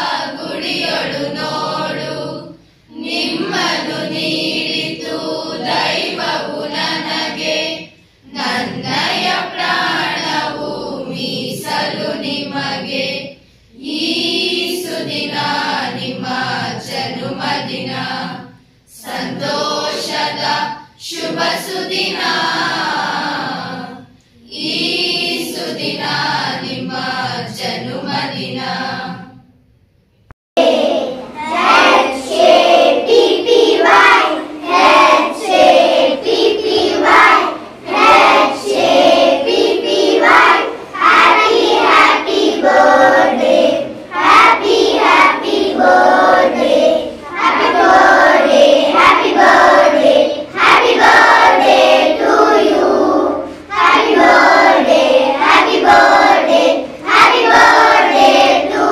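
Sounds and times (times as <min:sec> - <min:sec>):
children singing: 0:00.0 - 0:29.4, 0:30.6 - 0:58.9.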